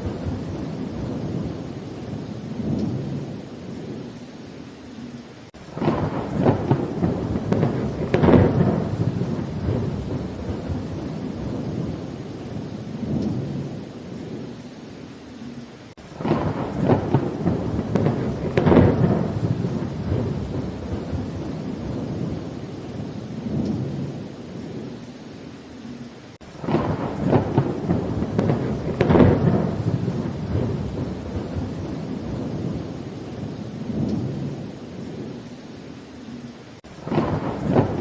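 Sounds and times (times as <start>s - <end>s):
rolling thunder: 0.0s - 4.1s, 5.5s - 14.5s, 16.0s - 25.0s, 26.4s - 35.5s, 36.8s - 38.0s
steady rain: 0.0s - 38.0s.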